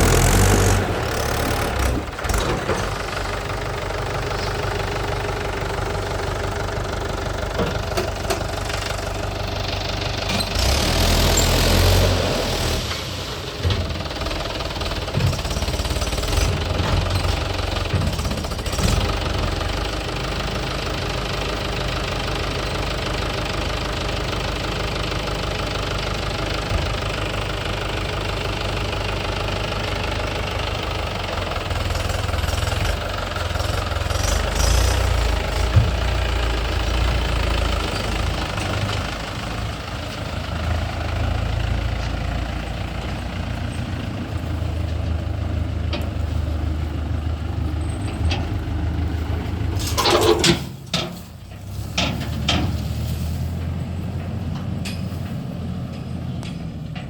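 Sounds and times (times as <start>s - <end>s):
diesel engine knocking hum: 0.0s - 12.0s, 13.4s - 57.0s.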